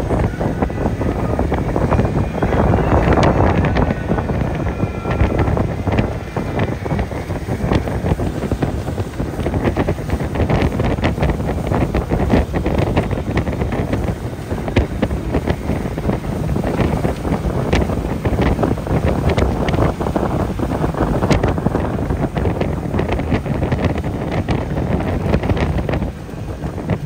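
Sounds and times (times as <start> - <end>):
boat engine: 0.0 - 27.0
boat wake rushing: 0.0 - 27.0
wind buffeting microphone: 0.0 - 27.0.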